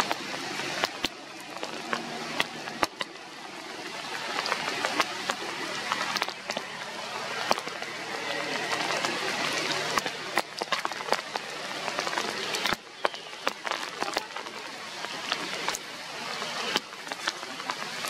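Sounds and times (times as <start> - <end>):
rain falling on leaves: 0.0 - 18.0.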